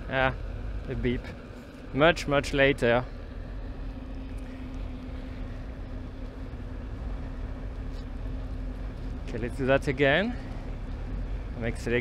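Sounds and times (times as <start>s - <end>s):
electric unicycle motor whine: 0.0s - 12.0s
low riding rumble: 0.0s - 12.0s.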